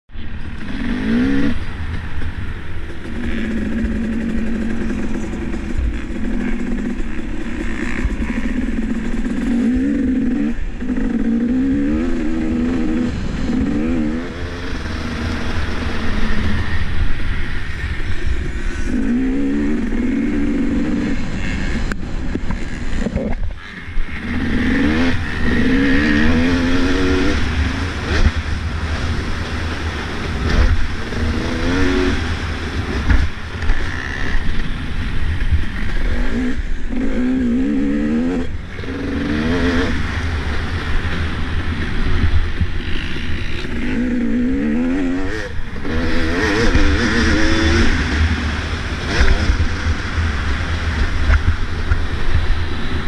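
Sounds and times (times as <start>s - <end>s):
wind on microphone: 0.1s - 53.0s
dirt bike engine revving: 0.3s - 53.0s.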